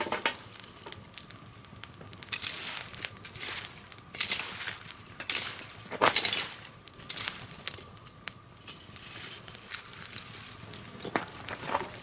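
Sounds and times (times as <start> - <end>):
log fire crackling: 0.0 - 12.0
soft hiss of flame: 0.0 - 12.0.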